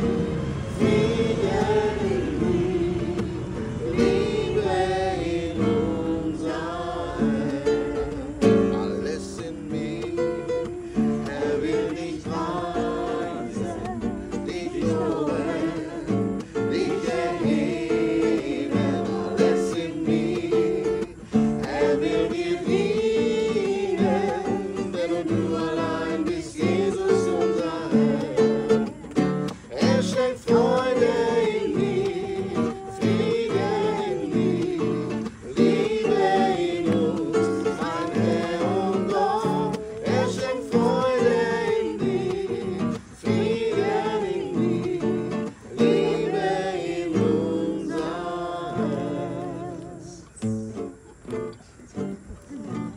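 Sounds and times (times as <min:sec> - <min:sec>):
person singing: 0:00.0 - 0:50.4
acoustic guitar strumming: 0:00.0 - 0:52.9.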